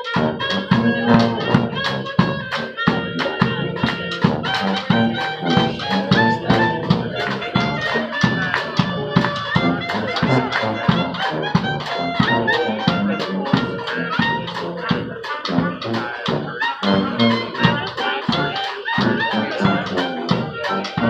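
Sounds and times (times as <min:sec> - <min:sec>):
second drum: 0:00.0 - 0:18.4
bass drum beat: 0:00.0 - 0:21.0
trumpets playing: 0:00.0 - 0:21.0
tuba playing: 0:00.0 - 0:21.0.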